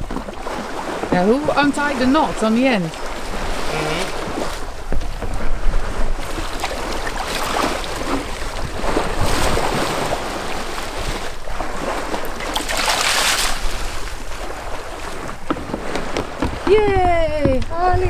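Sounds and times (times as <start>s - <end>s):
water rushing and splashing: 0.0s - 18.0s
wind on microphone: 0.0s - 18.0s.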